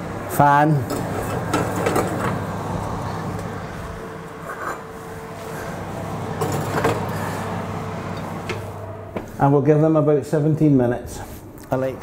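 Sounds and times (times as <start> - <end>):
oven fan humming: 0.0 - 12.0.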